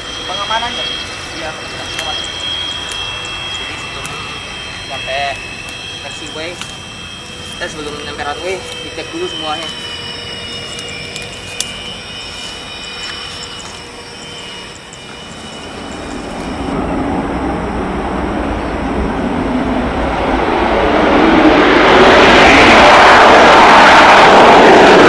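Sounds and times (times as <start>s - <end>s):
jet engines taking off: 0.0s - 25.0s.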